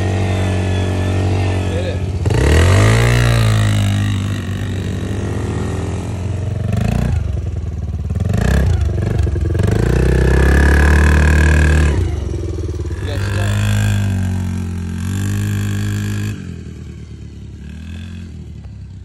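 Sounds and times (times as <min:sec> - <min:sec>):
small quad engine revving: 0:00.0 - 0:19.0.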